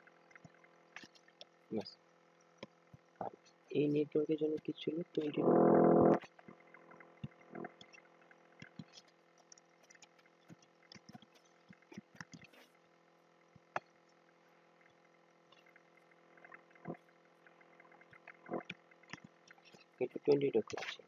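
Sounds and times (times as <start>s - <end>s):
faint room hum: 0.0s - 21.0s.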